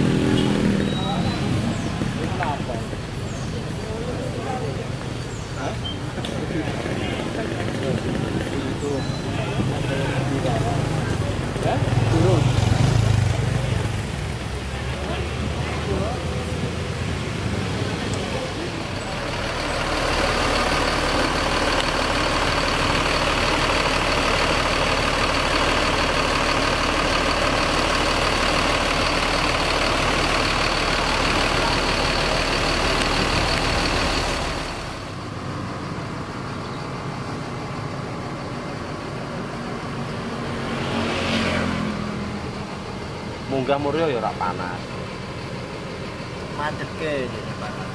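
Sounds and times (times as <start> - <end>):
diesel engine running with whine: 0.0 - 47.9.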